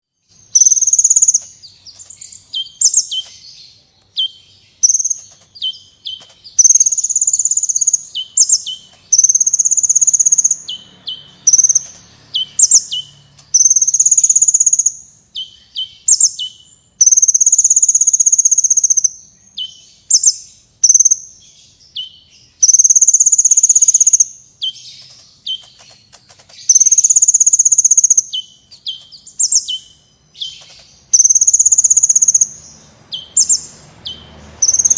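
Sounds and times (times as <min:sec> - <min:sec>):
bird singing buzzy trills: 0:00.0 - 0:34.9.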